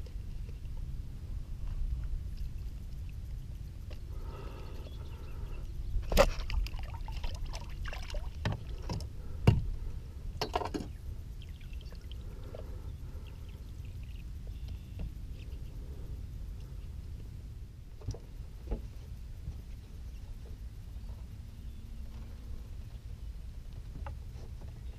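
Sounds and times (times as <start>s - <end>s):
steady low rumble: 0.0s - 24.9s.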